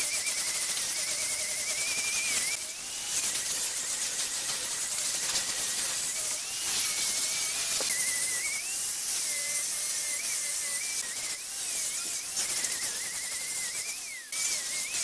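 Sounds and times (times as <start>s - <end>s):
angle grinder whine: 0.0s - 15.0s
sanding hiss: 0.0s - 15.0s.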